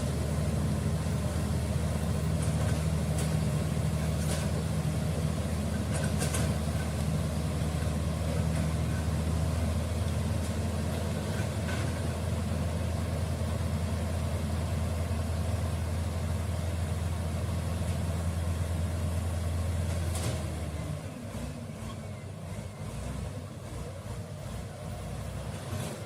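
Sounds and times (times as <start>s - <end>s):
bulldozer diesel engine droning: 0.0s - 26.0s.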